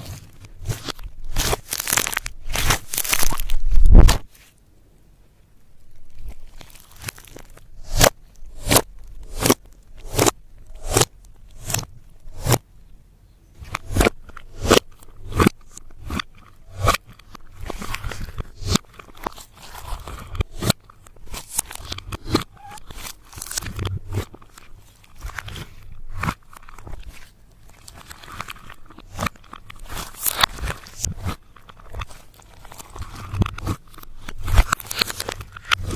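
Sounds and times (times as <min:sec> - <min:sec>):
slime crunching and crackling: 0:00.0 - 0:04.4, 0:05.8 - 0:12.6, 0:13.6 - 0:35.9.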